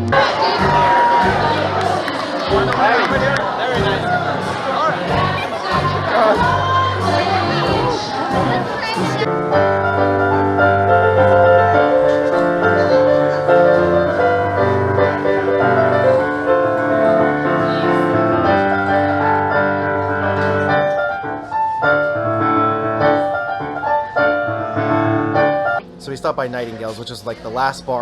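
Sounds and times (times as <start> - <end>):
piano music: 0.0 - 26.4.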